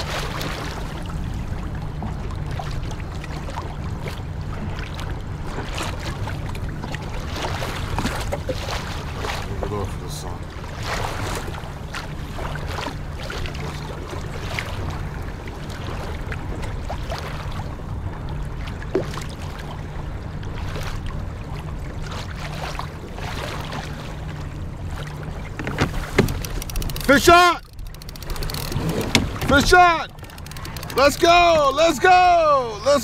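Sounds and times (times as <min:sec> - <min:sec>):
water lapping against kayak hull: 0:00.0 - 0:33.0.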